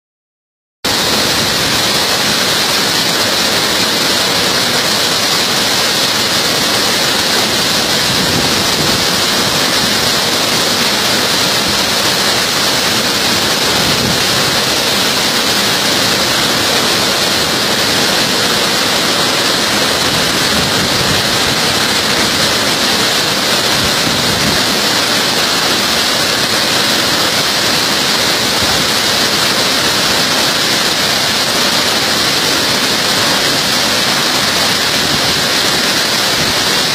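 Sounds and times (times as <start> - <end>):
waterfall rushing: 0.9 - 36.9.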